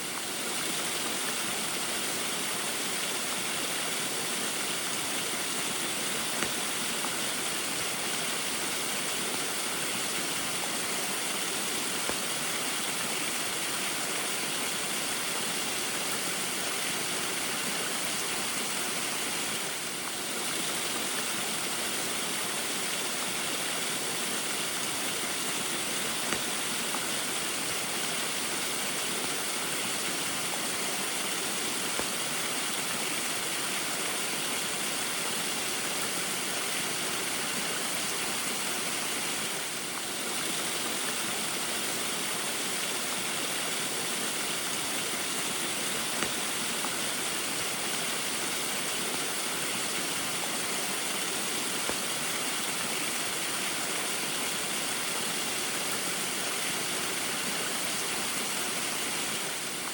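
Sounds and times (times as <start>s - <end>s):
small waterfall rushing: 0.0s - 59.9s.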